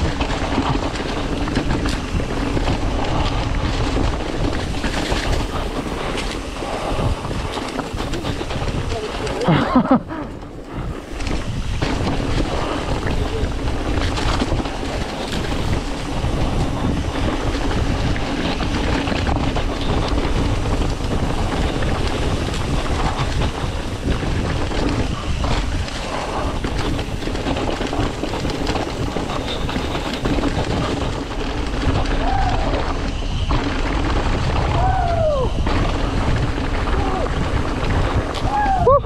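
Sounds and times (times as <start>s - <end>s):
bike knocks and rattles: 0.0s - 39.0s
tyres rolling through leaves: 0.0s - 39.0s
wind buffeting microphone: 0.0s - 39.0s.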